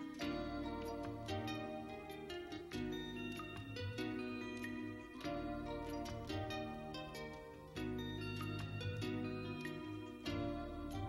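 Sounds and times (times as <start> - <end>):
plucked string music: 0.0 - 11.0.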